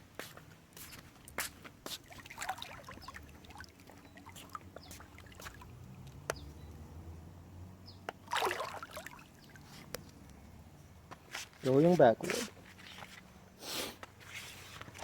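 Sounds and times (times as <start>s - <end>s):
pool water trickling and lapping: 0.0s - 15.0s.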